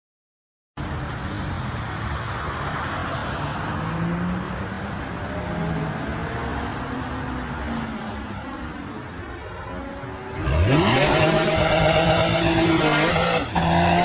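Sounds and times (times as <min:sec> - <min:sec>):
road noise: 0:00.8 - 0:14.0.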